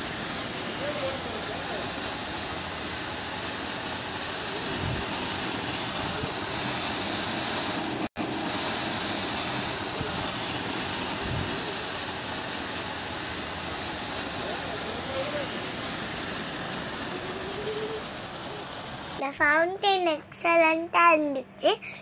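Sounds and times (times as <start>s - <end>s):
fountain firework hissing: 0.0s - 19.2s.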